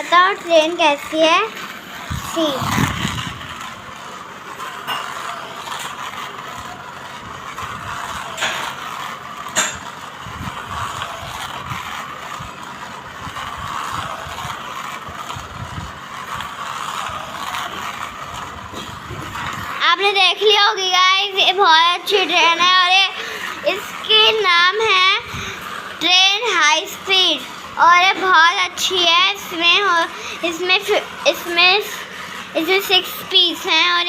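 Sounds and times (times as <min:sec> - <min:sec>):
toy train motor whirring: 0:00.0 - 0:34.0.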